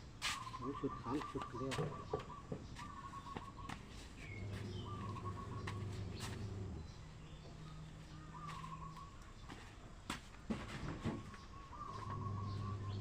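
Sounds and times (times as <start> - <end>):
bird calls: 0.2 - 13.0.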